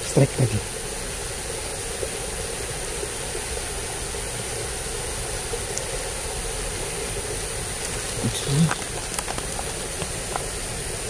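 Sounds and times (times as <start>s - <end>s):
water rushing in a ditch: 0.0s - 11.0s.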